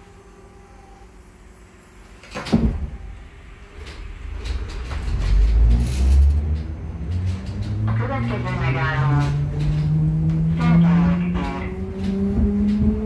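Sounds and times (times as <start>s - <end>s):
train rumble and motor hum: 0.0s - 13.0s
train doors banging shut: 2.1s - 13.0s.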